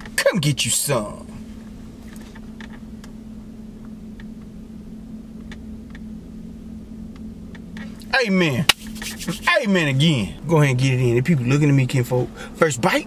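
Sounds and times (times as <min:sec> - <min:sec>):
low hum in vehicle cabin: 0:00.0 - 0:13.0.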